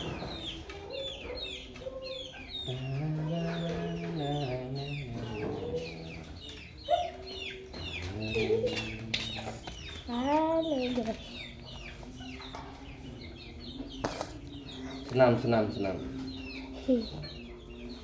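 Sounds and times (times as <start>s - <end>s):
chickens clucking and calling: 0.0s - 18.0s.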